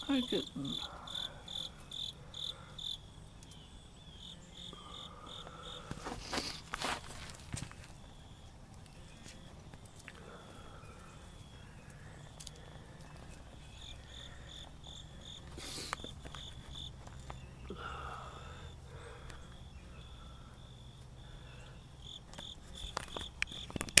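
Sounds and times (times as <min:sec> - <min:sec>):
high-pitched insect chirping: 0:00.0 - 0:24.0.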